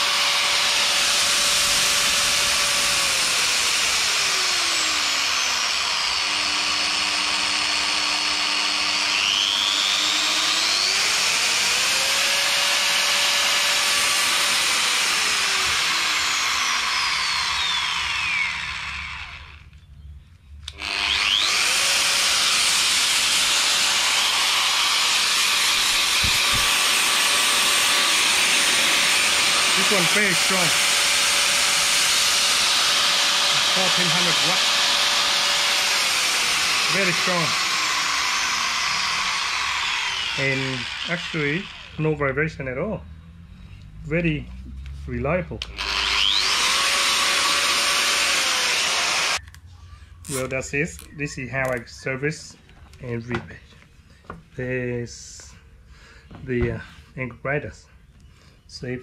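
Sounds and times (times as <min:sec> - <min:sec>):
angle grinder whining: 0:00.0 - 0:19.9, 0:20.6 - 0:43.9, 0:44.6 - 0:52.5.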